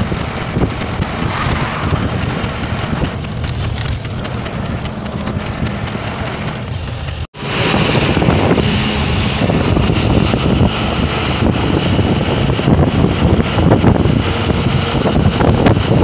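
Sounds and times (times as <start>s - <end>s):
truck engine and road noise: 0.0s - 16.0s
wind rush over microphone: 0.0s - 16.0s.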